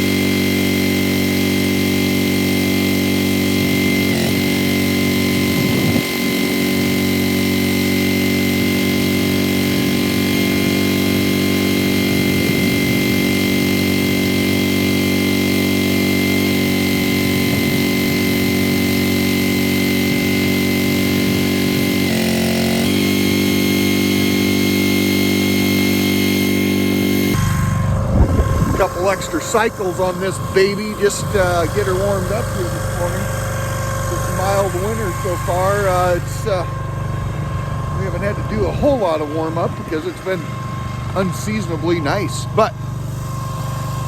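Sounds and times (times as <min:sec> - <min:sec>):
log splitter engine running: 0:00.0 - 0:44.0.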